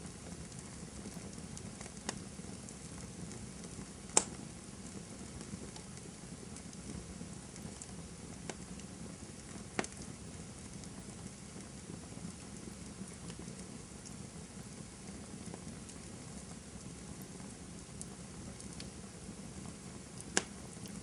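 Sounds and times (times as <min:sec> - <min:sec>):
campfire hissing and crackling: 0:00.0 - 0:21.0
burning wood popping: 0:00.4 - 0:21.0.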